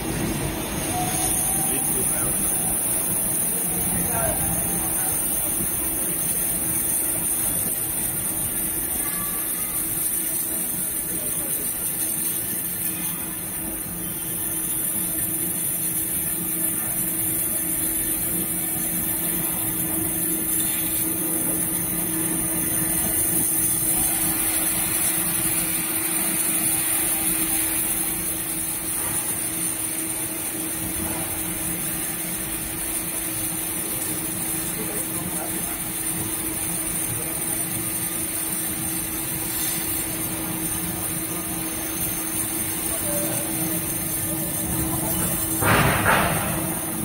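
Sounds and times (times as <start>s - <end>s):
low machine hum: 0.0s - 47.0s
waterjet cutter hissing: 0.0s - 47.0s.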